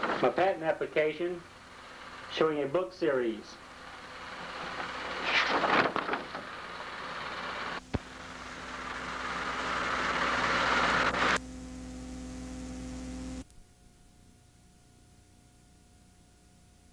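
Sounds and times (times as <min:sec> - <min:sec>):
steady low hum with faint tone: 0:00.0 - 0:16.9
videotape hiss: 0:00.0 - 0:16.9.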